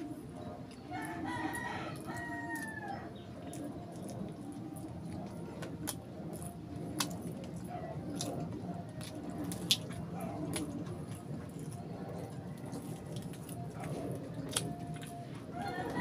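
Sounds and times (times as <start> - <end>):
low background rumble: 0.0 - 16.0
chewing: 0.4 - 16.0.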